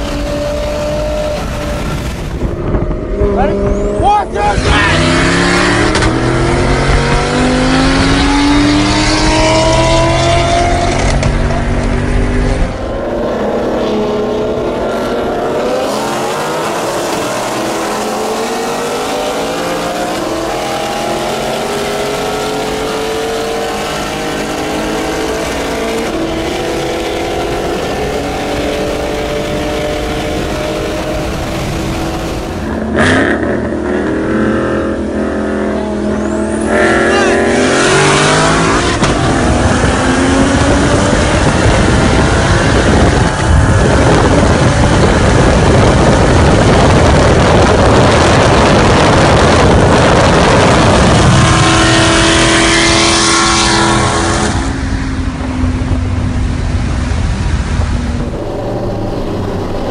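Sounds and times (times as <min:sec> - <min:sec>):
car engines at full throttle: 0:00.0 - 0:59.9
wind and tyre noise: 0:00.0 - 0:59.9.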